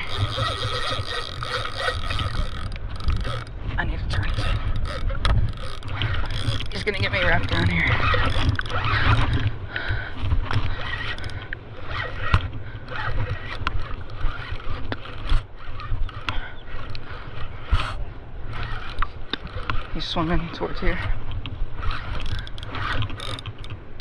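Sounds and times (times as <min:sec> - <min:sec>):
fishing gear knocks and scrapes: 0:00.0 - 0:09.6, 0:10.2 - 0:24.0
wind rumbling on microphone: 0:00.0 - 0:24.0.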